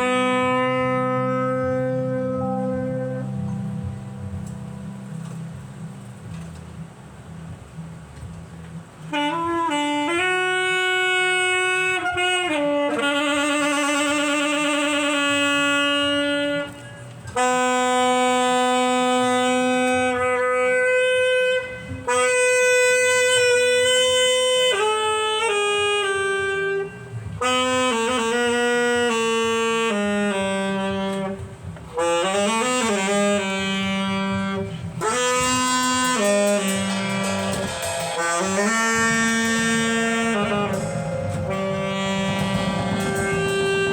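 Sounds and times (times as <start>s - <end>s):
saxophone slow melody: 0.0s - 43.9s.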